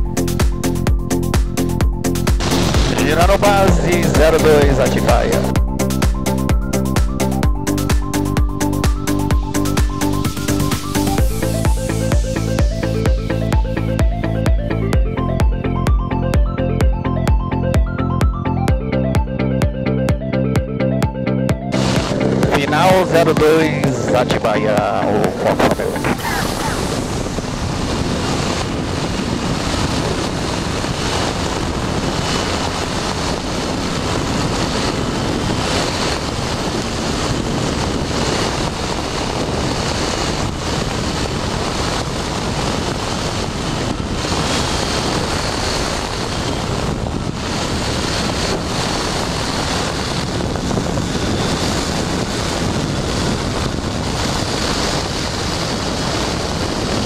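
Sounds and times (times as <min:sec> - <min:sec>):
aircraft engine running: 0:00.0 - 0:57.0
wind rushing over microphone: 0:00.0 - 0:57.0.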